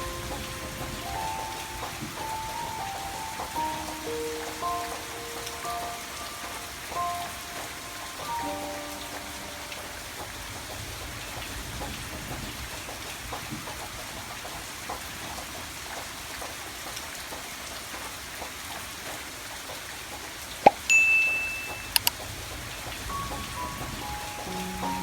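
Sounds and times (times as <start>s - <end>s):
patter of raindrops: 0.0s - 25.0s
steady rain falling: 0.0s - 25.0s.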